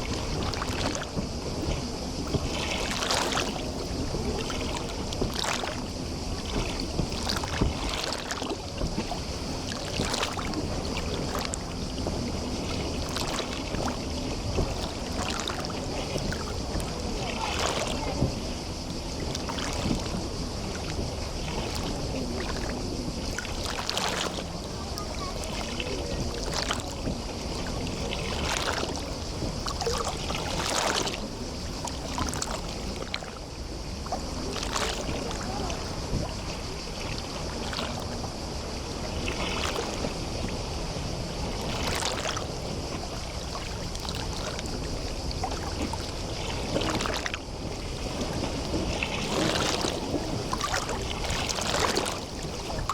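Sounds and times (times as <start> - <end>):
constant high hiss: 0.0 - 52.9
small waves lapping and splashing: 0.0 - 52.9
steady wash of water: 0.0 - 52.9.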